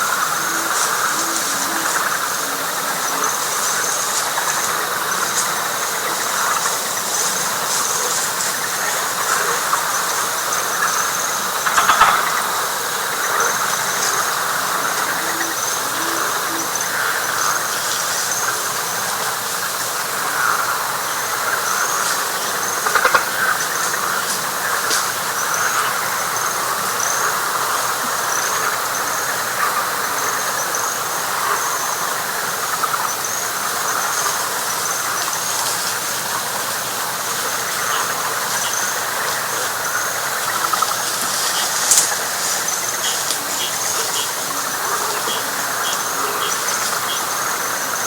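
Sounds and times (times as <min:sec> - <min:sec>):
frog chorus: 0:00.0 - 0:48.0
pulsing insect trill: 0:00.0 - 0:48.0.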